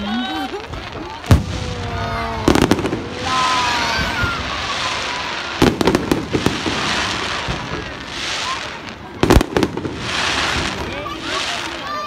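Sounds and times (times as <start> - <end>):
fireworks hissing crackle: 0.0 - 12.0
fireworks bangs: 0.4 - 12.0.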